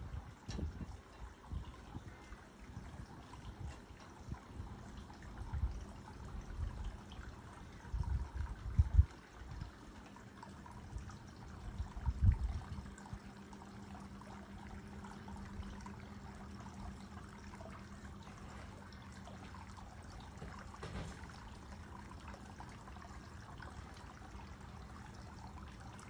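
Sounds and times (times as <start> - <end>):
low steady hum: 0.0 - 26.0
trickle of running water: 0.0 - 26.0.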